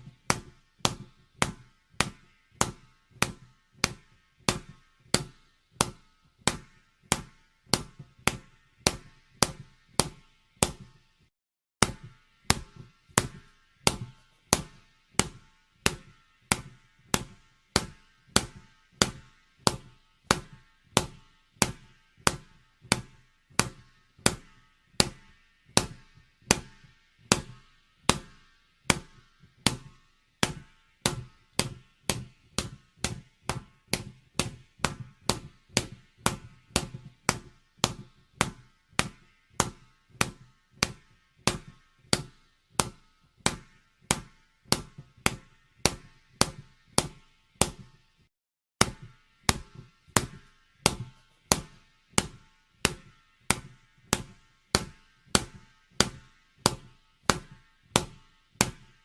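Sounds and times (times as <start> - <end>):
ball bouncing: 0.1 - 10.9, 11.8 - 25.2, 29.7 - 47.8, 48.8 - 58.8.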